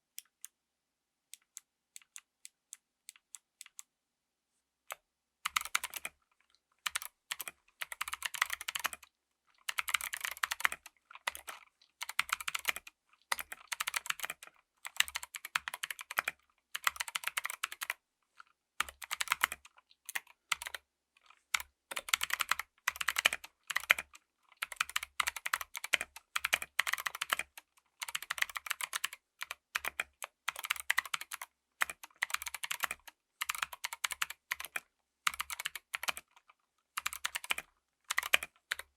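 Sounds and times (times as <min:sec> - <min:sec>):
clicky keyboard typing: 0:04.9 - 0:06.2, 0:06.8 - 0:38.9.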